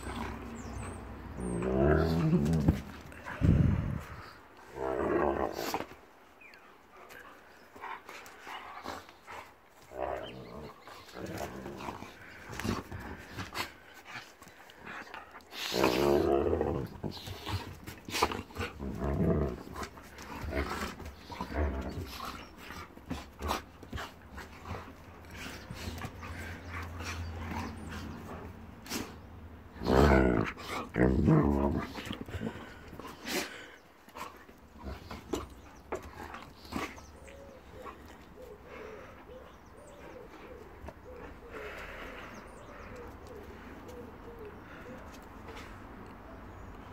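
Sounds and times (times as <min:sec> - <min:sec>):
dogs growling: 0:00.0 - 0:06.0, 0:07.0 - 0:45.7.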